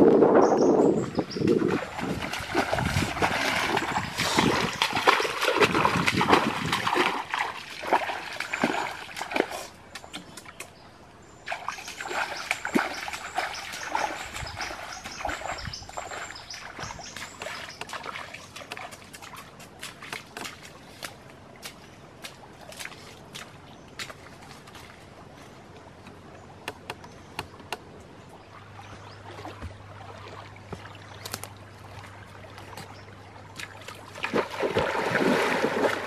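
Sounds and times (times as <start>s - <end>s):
feet splashing through water: 1.0s - 10.6s, 11.4s - 26.0s, 28.3s - 36.0s.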